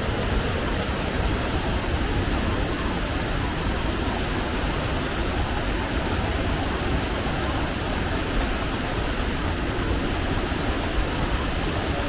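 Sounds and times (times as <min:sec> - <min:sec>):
waterfall rushing water: 0:00.0 - 0:12.0.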